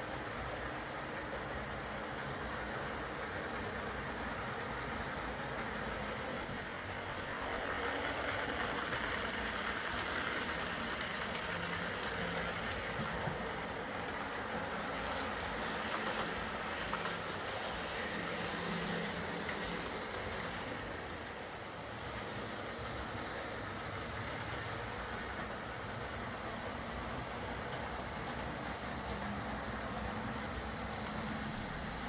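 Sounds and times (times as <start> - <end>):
wheels rolling on rails: 0.0 - 32.0
model train motor whirring: 2.5 - 32.0.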